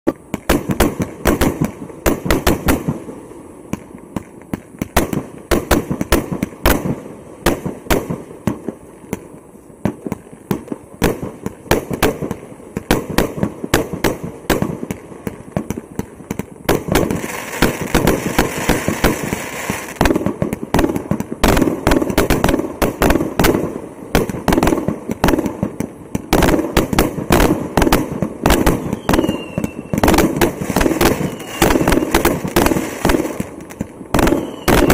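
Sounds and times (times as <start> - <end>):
fireworks aerial bursts: 0.1 - 34.9.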